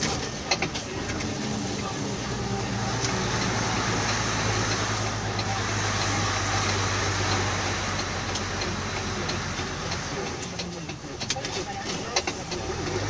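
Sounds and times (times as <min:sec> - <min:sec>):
tyre road noise: 0:00.0 - 0:13.0
vehicle engine hum: 0:00.0 - 0:13.0.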